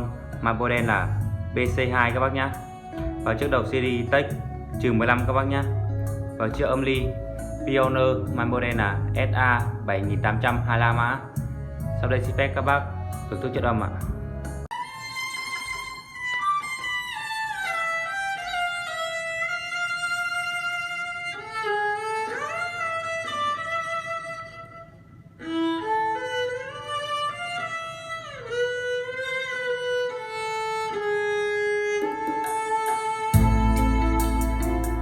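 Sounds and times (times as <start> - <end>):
solo violin melody: 0.0 - 35.0.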